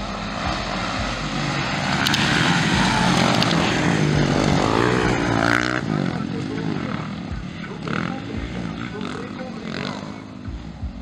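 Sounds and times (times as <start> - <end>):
motocross bikes revving: 0.0 - 11.0
nearby bike revving hard: 0.0 - 11.0.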